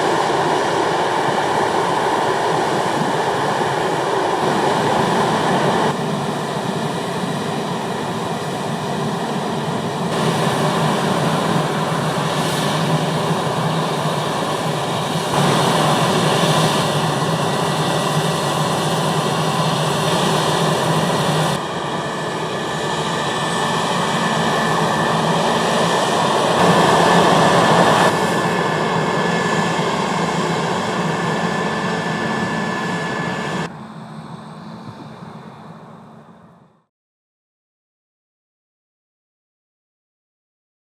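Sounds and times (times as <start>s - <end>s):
combine harvester engine drone: 0.0s - 36.9s
steady high whine: 0.0s - 36.9s.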